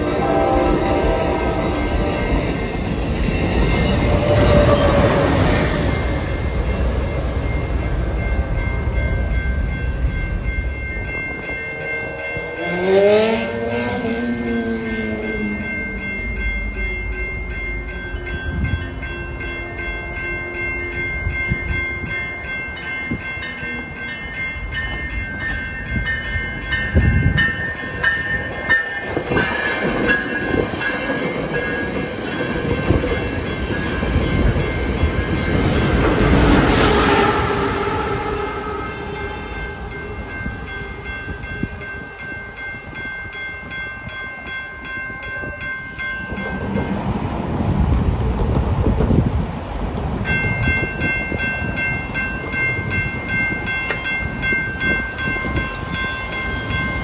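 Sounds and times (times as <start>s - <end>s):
crossing bell ringing: 0.0s - 47.8s, 50.2s - 57.0s
train running through crossing: 0.0s - 57.0s.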